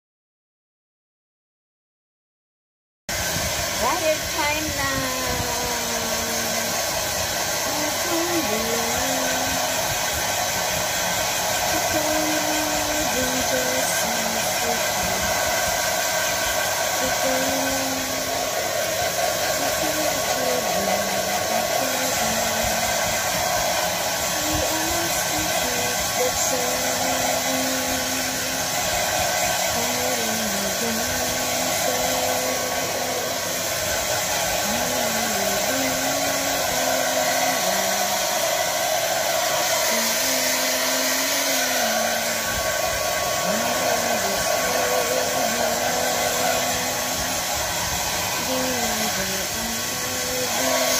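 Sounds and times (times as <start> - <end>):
hair dryer blowing: 3.1 - 50.9.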